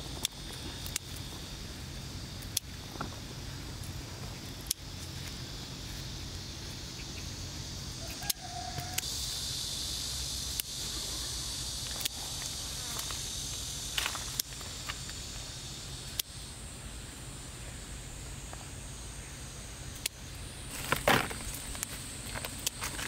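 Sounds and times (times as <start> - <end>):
insect trilling: 0.0 - 23.0.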